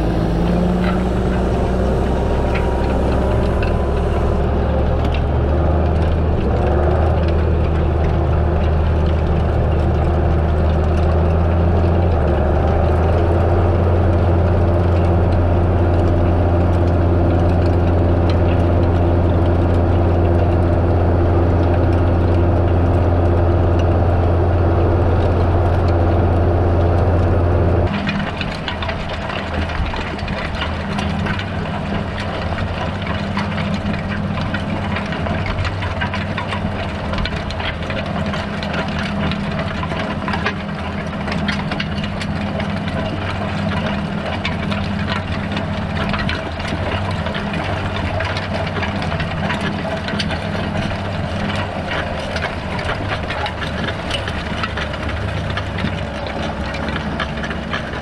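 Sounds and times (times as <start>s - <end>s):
cultivator tines rattling and clicking: 0.0s - 58.0s
tractor diesel engine running: 0.0s - 58.0s.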